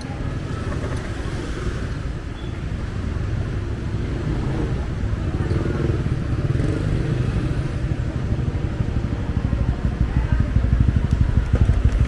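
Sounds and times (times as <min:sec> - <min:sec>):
passing motorbike and car engines: 0:00.0 - 0:12.0.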